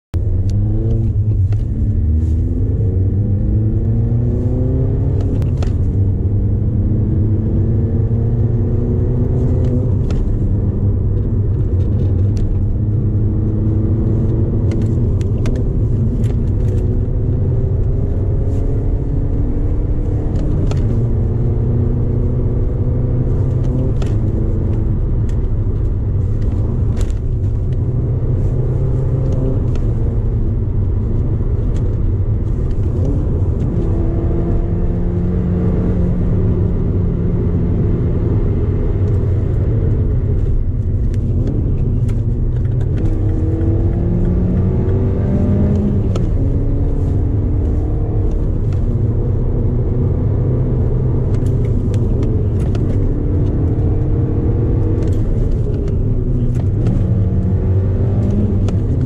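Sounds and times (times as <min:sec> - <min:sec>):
car engine revving through gears: 0:00.2 - 0:59.0.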